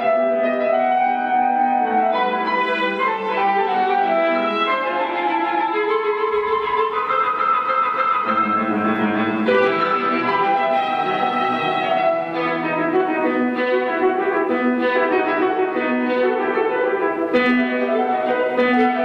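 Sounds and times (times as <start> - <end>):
classical violin music: 0.0 - 19.0.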